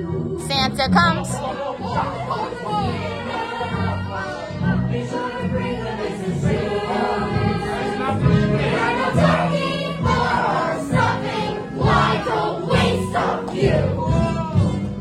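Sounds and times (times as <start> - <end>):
group of voices singing: 0.0 - 14.8.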